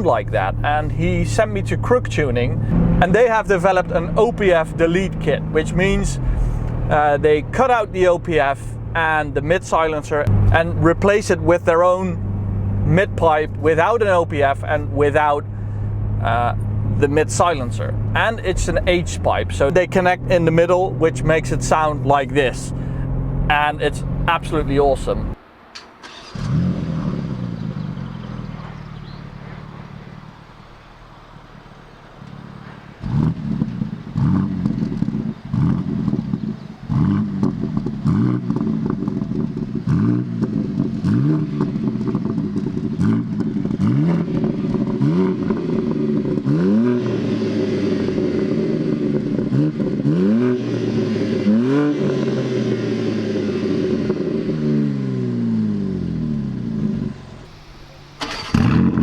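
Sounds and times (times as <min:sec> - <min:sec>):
car engine revving in blips: 0:00.0 - 0:59.0.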